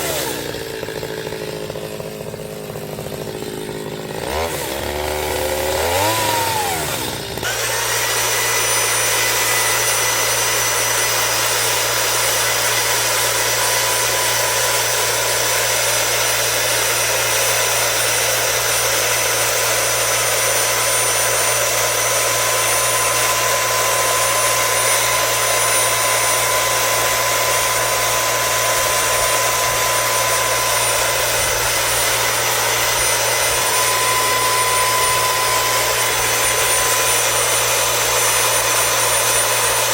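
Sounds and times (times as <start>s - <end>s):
power tool motor whining: 0.0s - 39.9s.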